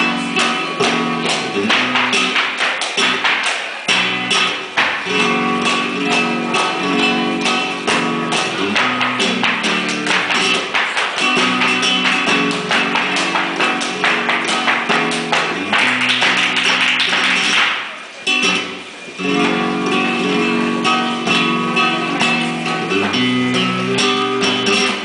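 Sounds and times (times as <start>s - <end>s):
flamenco guitar: 0.0s - 25.0s
rhythmic hand clapping: 0.0s - 25.0s.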